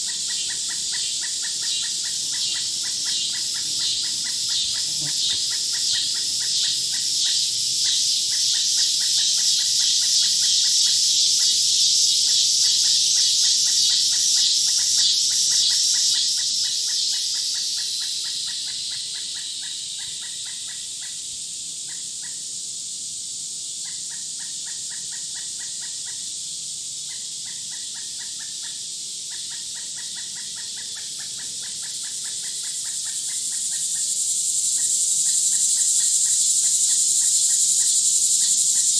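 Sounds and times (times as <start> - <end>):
shrill pulsing insect chorus: 0.0 - 38.9.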